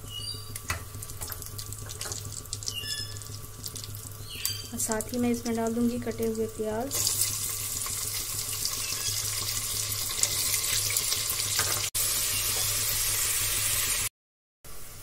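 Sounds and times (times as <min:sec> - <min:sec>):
onions sizzling in oil: 0:00.1 - 0:14.1.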